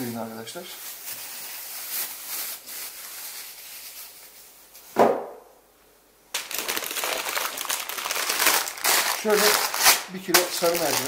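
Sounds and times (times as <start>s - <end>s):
plastic bag rustling and crinkling: 0.0s - 4.8s, 6.3s - 11.0s.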